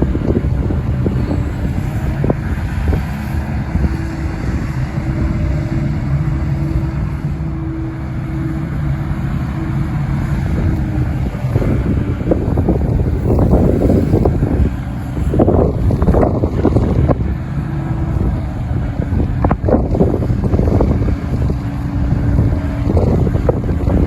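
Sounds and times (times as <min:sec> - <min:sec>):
excavator diesel engine running: 0:00.0 - 0:24.0
higher hum: 0:00.0 - 0:24.0.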